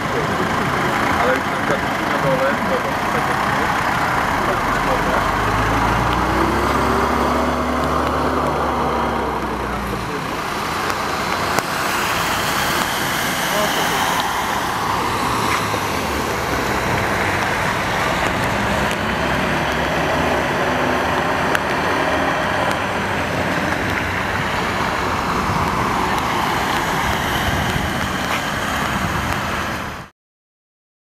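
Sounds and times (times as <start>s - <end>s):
floodwater rushing: 0.0s - 30.1s.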